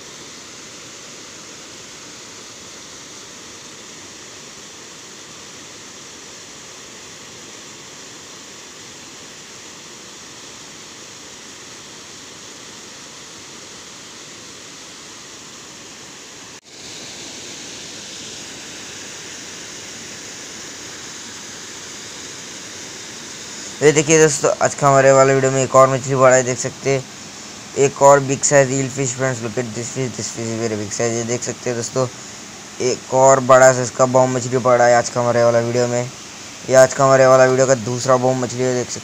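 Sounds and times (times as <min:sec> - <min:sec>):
water rushing over a weir: 0:00.0 - 0:39.0.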